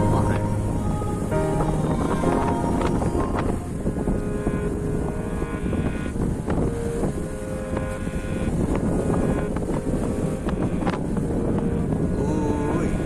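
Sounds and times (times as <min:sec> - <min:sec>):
choppy sea rushing: 0:00.0 - 0:13.0
wind buffeting microphone: 0:00.0 - 0:13.0.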